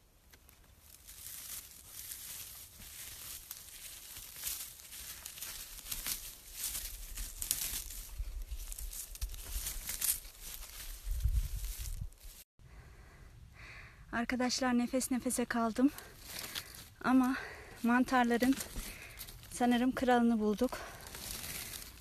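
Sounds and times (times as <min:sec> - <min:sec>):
pine needles crackling and rustling: 0:00.2 - 0:12.5, 0:15.0 - 0:22.0.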